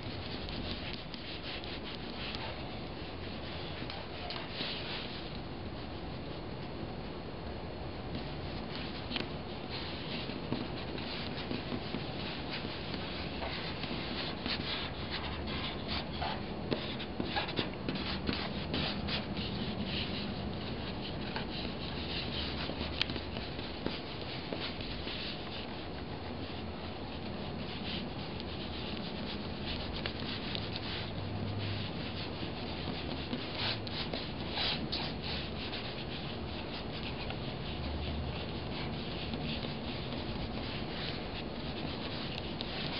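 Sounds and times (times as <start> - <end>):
pens scratching on paper: 0.0 - 5.9, 8.1 - 42.9.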